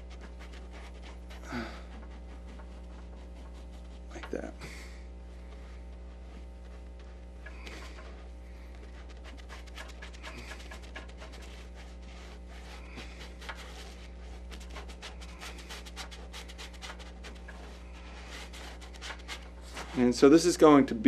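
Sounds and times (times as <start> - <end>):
paintbrush scratching on surface: 0.0 - 4.6, 5.2 - 21.0
low electrical hum: 0.0 - 21.0.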